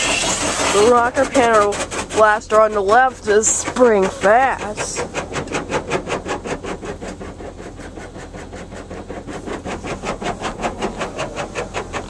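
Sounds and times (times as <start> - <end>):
water jets pulsing against car: 0.0 - 12.0.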